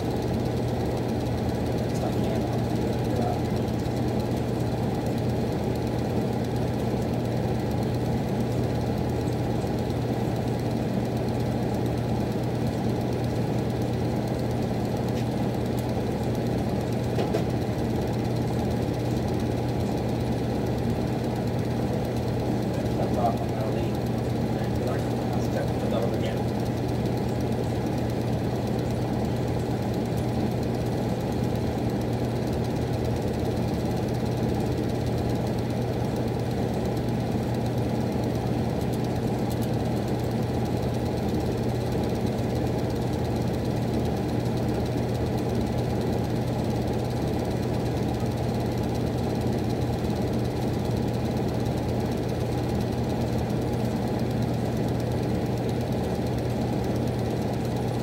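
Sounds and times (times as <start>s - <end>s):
furnace humming: 0.0s - 58.0s.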